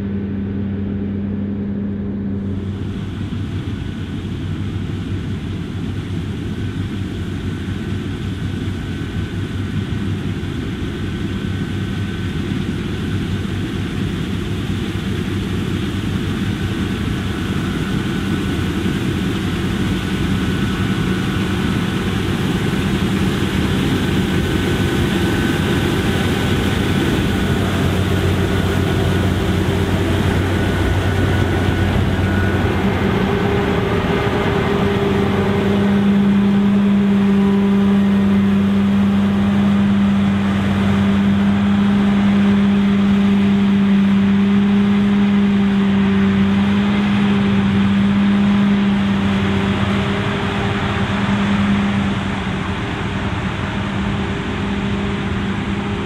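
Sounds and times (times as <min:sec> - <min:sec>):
combine harvester humming: 0:00.0 - 0:56.0
faint high whine: 0:00.0 - 0:56.0.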